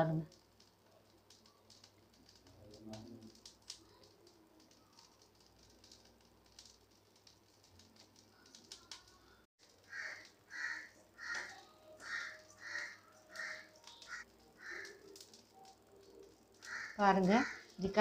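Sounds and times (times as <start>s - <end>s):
crackles of frying snacks in salt: 0.0s - 18.0s.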